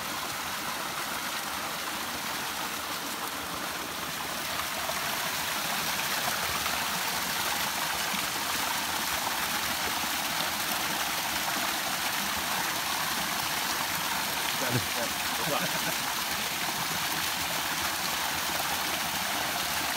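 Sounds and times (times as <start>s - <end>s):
water pouring into pool: 0.0s - 19.9s.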